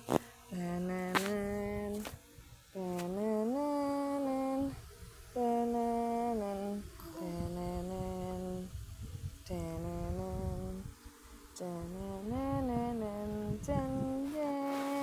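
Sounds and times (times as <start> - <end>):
woman humming a slow tune: 0.5 - 2.1, 2.7 - 8.8, 9.4 - 11.0, 11.6 - 15.0.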